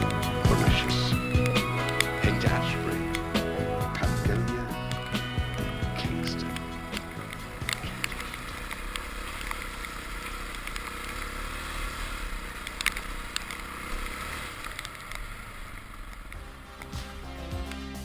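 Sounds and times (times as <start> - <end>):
sharp ticks: 0.0 - 17.0
motorcycle engine running: 0.0 - 18.0
wind and road noise: 0.0 - 18.0.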